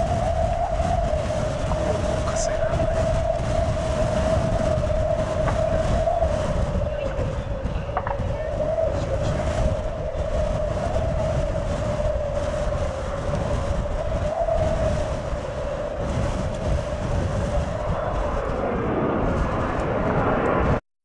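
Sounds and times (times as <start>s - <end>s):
jet airliner engines rumbling: 0.0s - 20.8s.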